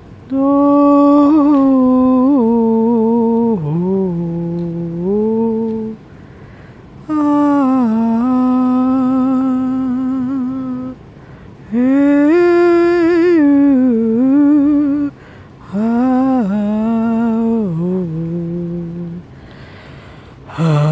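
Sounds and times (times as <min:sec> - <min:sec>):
woman humming: 0:00.3 - 0:06.0, 0:07.0 - 0:11.0, 0:11.7 - 0:19.3, 0:20.5 - 0:20.9.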